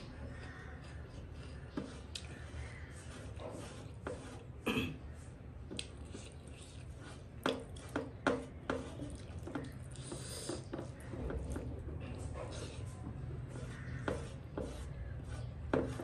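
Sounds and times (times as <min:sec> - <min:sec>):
wet squishing of food: 0:00.0 - 0:14.0.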